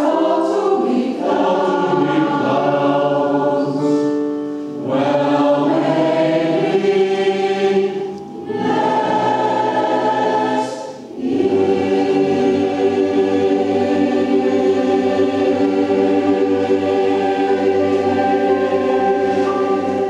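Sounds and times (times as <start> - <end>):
mixed choir singing chords: 0.0 - 20.0.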